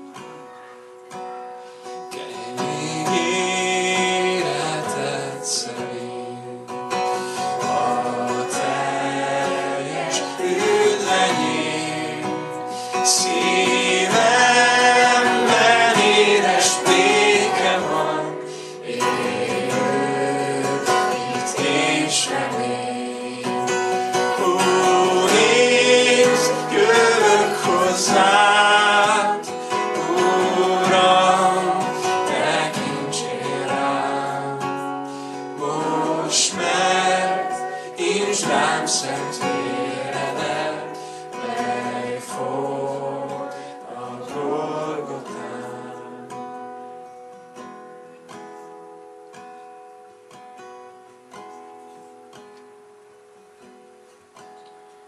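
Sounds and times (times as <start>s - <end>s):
acoustic guitar strumming: 0.0s - 55.0s
person singing worship song: 1.6s - 47.0s.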